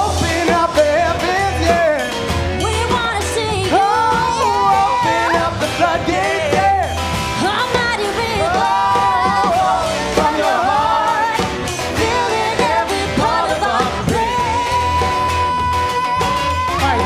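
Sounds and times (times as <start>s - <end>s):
gliding melodic lead line: 0.0s - 17.0s
live band playing funk: 0.0s - 17.0s
steady bass groove: 0.0s - 17.0s.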